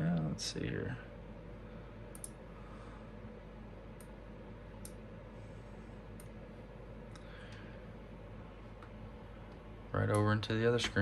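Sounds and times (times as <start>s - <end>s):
low room tone hum: 0.0s - 11.0s.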